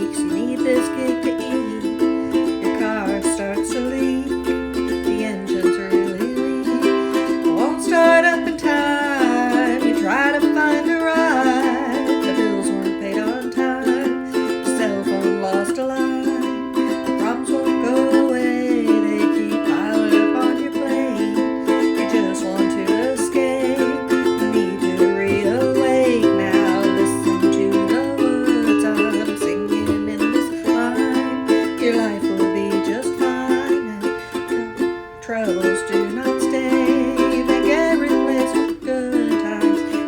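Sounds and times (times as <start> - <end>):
ukulele strumming: 0.0 - 40.0
woman singing: 0.0 - 40.0.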